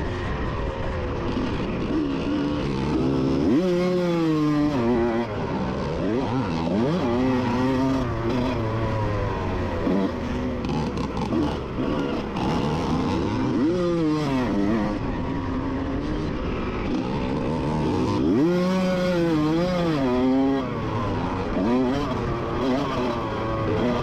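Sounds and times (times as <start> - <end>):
motocross bike engine racing: 0.0 - 24.0.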